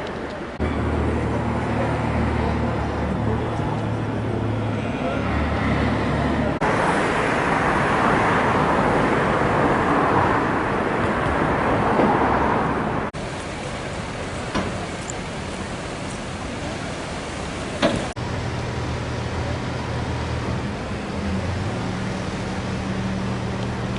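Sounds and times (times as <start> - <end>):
engine low drone: 0.0 - 23.9
traffic rush: 0.0 - 23.9.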